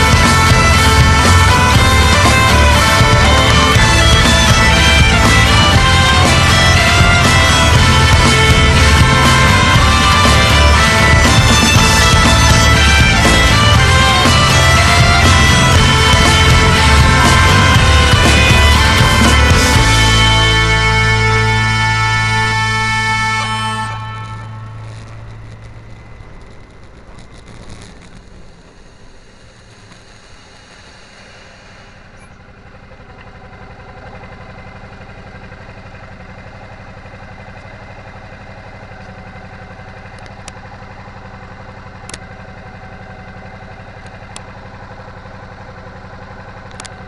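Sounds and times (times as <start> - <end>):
motorcycle engine cruising: 0.0 - 47.0
road and wind noise: 0.0 - 47.0.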